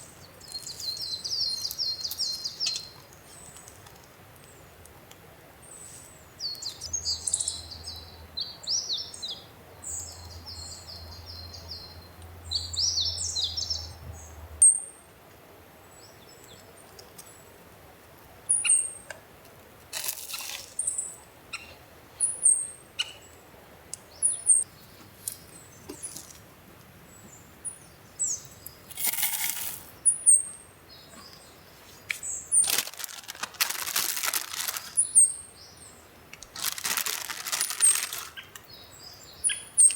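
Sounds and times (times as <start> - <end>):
small birds chirping: 0.0 - 5.0, 5.6 - 15.0, 15.8 - 17.6, 18.4 - 19.1, 20.3 - 39.9.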